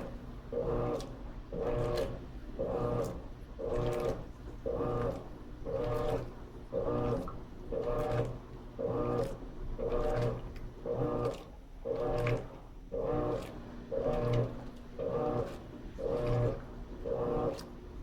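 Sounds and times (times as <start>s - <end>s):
washing machine agitating: 0.0s - 18.0s.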